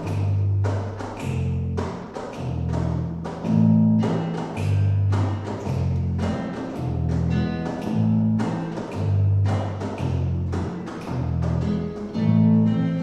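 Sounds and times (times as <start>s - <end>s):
acoustic guitars playing chords: 0.0s - 13.0s.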